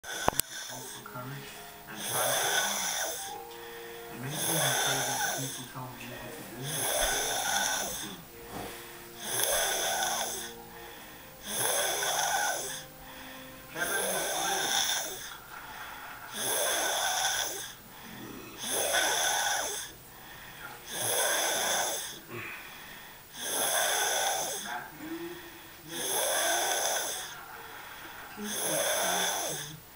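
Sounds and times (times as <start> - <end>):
person snoring loudly: 0.0 - 1.0, 1.9 - 3.4, 4.2 - 5.7, 6.5 - 20.0, 20.8 - 22.7, 23.3 - 29.8.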